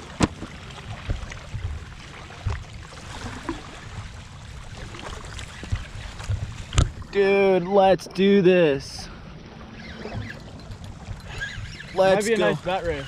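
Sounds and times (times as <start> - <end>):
wind and surf rumble: 0.0 - 13.0.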